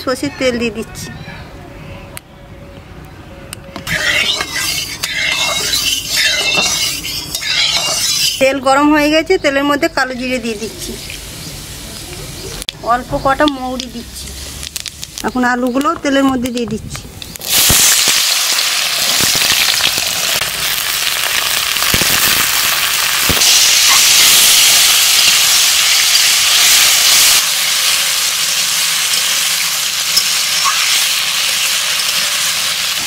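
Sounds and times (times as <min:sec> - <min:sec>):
potatoes sizzling in oil: 0:03.9 - 0:08.6, 0:09.6 - 0:15.6, 0:17.2 - 0:33.0.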